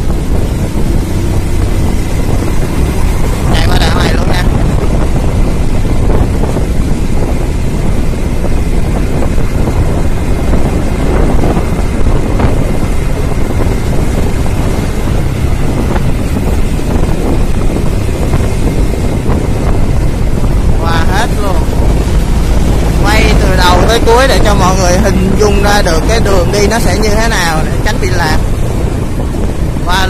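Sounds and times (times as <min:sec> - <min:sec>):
road and traffic noise: 0:00.0 - 0:30.0
wind buffeting a microphone: 0:00.0 - 0:30.0.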